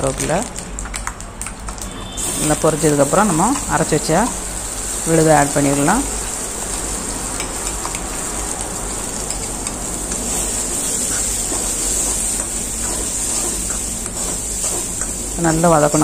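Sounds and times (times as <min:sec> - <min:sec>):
paste sizzling in hot oil: 0:02.0 - 0:16.0.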